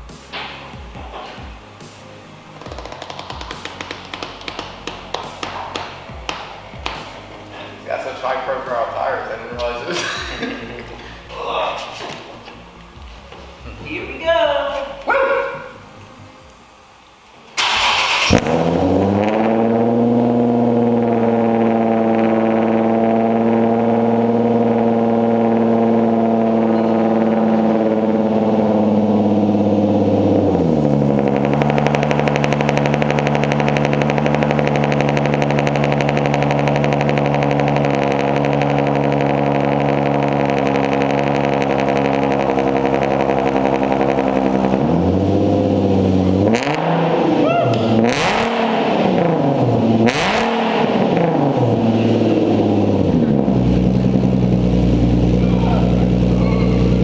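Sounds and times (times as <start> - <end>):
car engine revving through exhaust: 0.0 - 9.9, 17.6 - 57.0.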